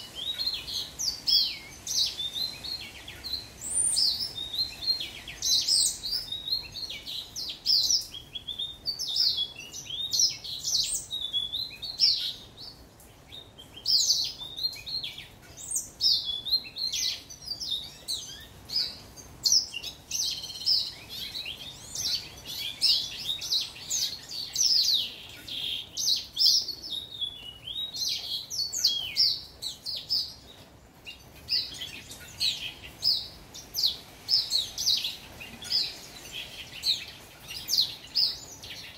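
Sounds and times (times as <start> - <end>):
finch singing: 0.0 - 38.9.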